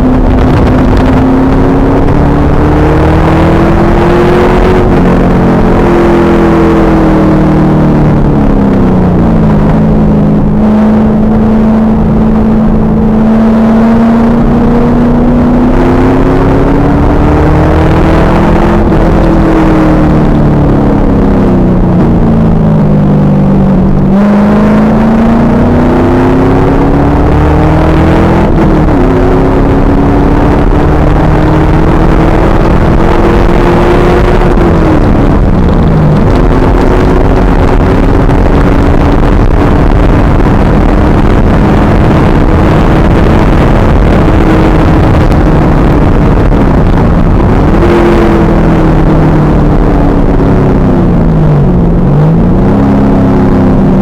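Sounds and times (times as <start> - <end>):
car engine at speed: 0.0 - 54.0.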